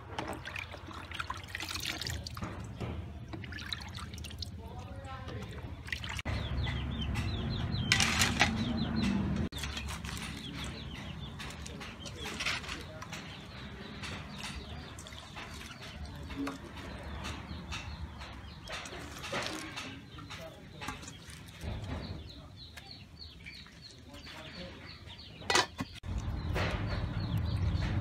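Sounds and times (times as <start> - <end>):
small birds chirping: 0.3 - 28.0.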